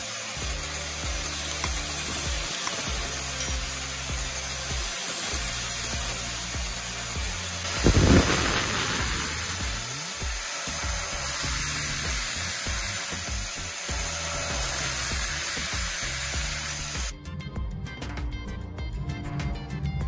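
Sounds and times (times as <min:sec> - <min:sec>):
angle grinder grinding metal: 0:00.0 - 0:17.2
background music: 0:00.0 - 0:20.0.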